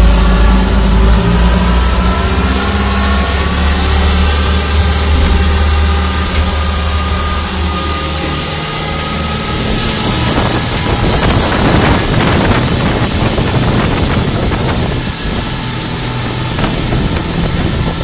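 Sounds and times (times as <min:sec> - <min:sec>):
boat engine running: 0:00.0 - 0:18.0
thin high whine: 0:00.0 - 0:18.0.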